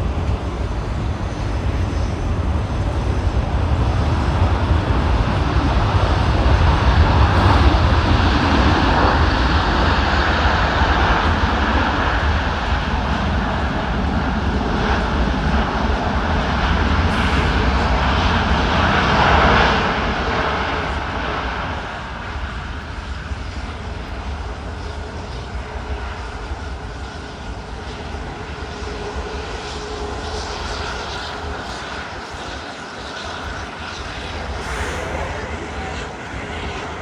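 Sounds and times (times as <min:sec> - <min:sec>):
jet airliner passing: 0:00.0 - 0:37.0.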